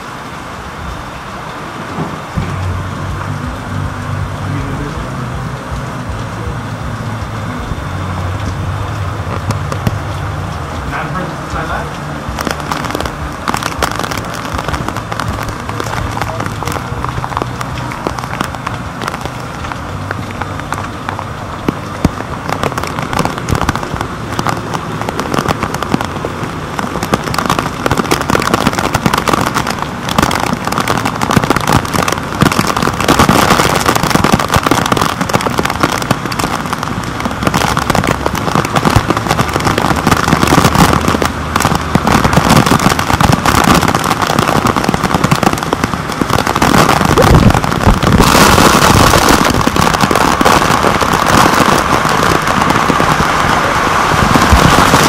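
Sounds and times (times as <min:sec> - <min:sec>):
rain hitting camera housing: 0:00.0 - 0:55.0.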